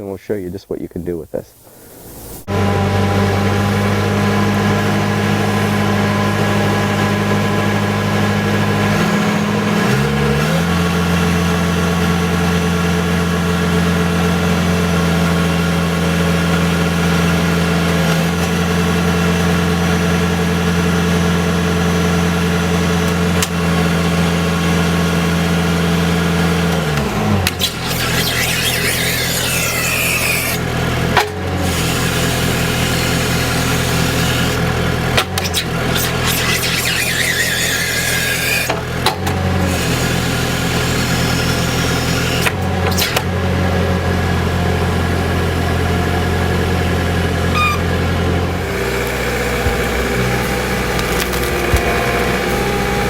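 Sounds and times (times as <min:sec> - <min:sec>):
loader engine running: 0:02.4 - 0:53.0.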